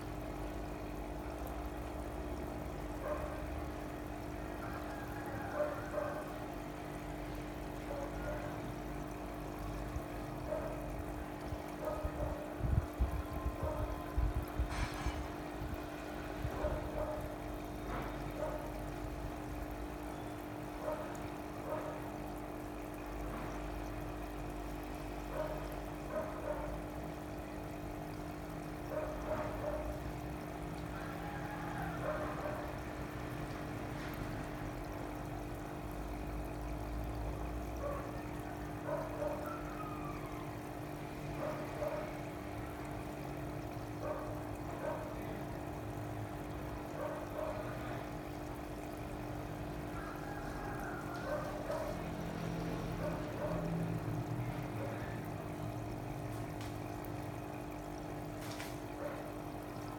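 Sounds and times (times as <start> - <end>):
water pouring and gurgling: 0.0 - 59.9.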